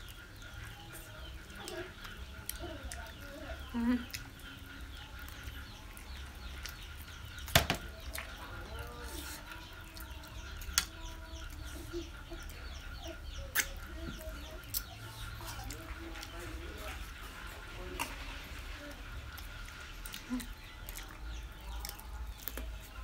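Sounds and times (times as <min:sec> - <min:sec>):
eating clicks and smacks: 0:00.0 - 0:08.8, 0:09.4 - 0:16.9, 0:19.3 - 0:23.0
chickens clucking: 0:00.0 - 0:23.0.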